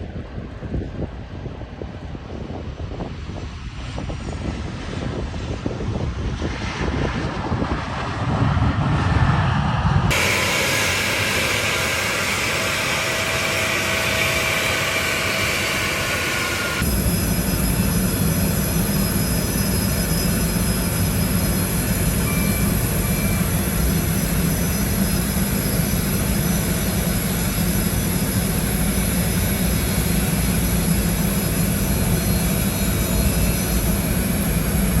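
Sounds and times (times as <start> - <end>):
jet engines whining and rumbling: 0.0 - 35.0.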